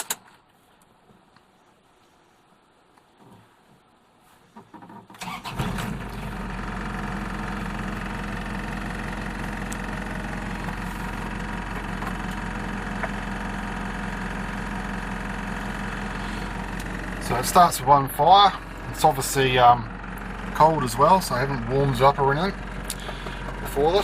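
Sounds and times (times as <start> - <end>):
diesel engine cranking and idling: 4.6 - 24.0.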